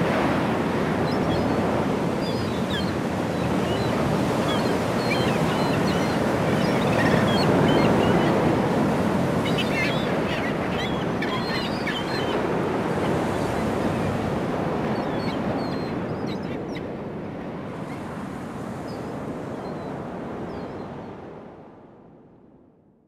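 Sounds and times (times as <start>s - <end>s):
ocean surf washing: 0.0s - 21.6s.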